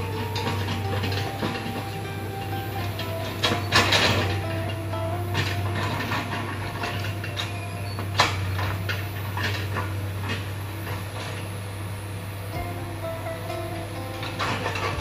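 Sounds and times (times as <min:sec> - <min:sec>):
metallic clanks and knocks: 0:00.0 - 0:11.4, 0:12.5 - 0:15.0
excavator engine drone: 0:00.0 - 0:15.0.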